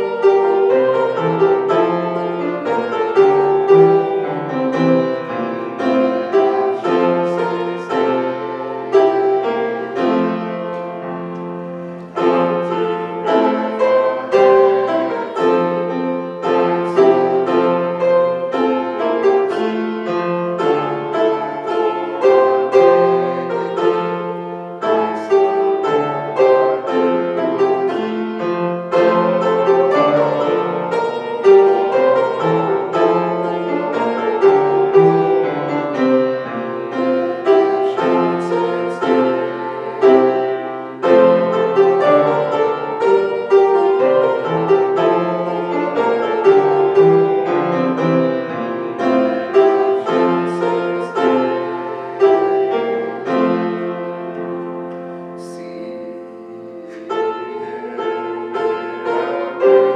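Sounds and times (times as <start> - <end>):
solo grand piano: 0.0 - 59.9.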